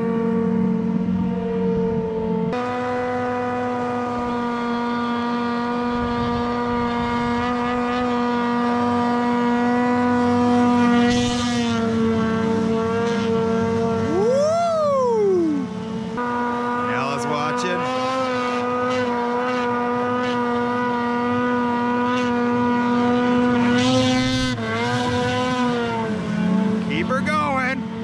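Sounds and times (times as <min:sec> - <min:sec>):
snowmobile engine at high speed: 0:00.0 - 0:28.0.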